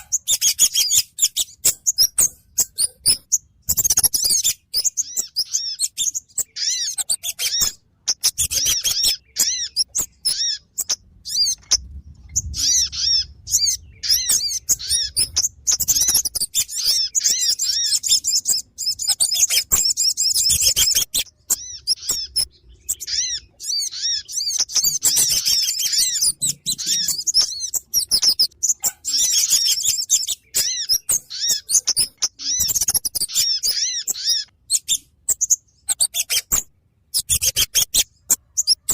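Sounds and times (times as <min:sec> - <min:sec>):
rapid high bird chirps: 0:00.0 - 0:38.9.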